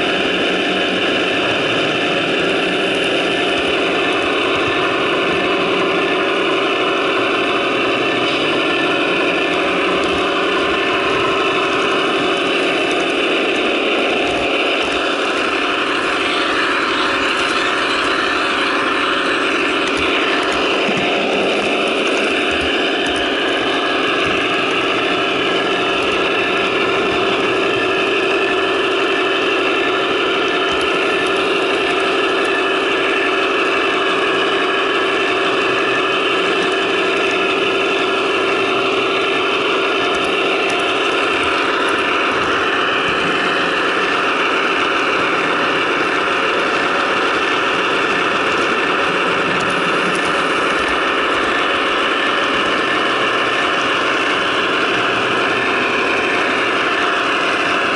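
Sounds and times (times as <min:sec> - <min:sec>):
model locomotive diesel engine sound: 0:00.0 - 0:57.9.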